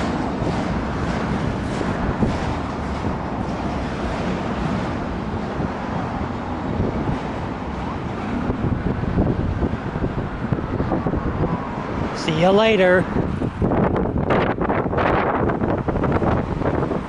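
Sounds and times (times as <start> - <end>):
train rumbling past: 0.0 - 17.0
wind buffeting microphone: 0.0 - 17.0.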